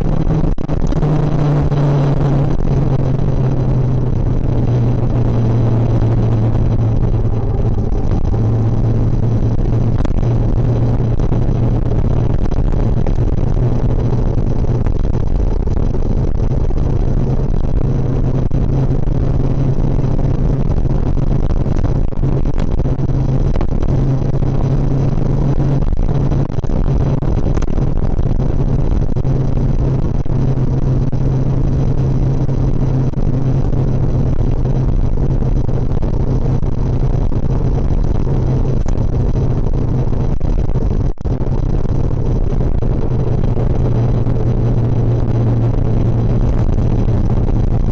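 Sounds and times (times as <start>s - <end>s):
constant rushing noise: 0.0s - 47.9s
motorcycle engine running: 0.0s - 47.9s.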